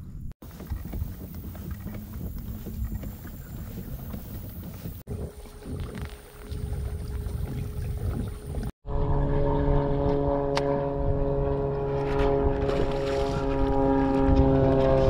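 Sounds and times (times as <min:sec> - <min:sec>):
kayak motor humming: 0:00.4 - 0:15.0.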